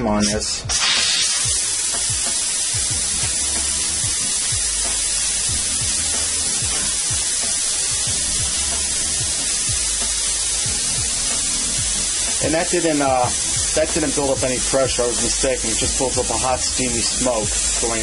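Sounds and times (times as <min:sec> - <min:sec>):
steam hissing from release valve: 0:00.2 - 0:18.0.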